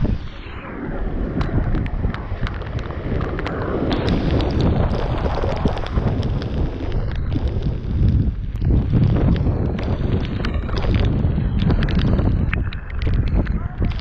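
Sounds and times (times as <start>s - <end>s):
wind buffeting microphone: 0.0s - 14.0s
heavy rain: 1.0s - 14.0s.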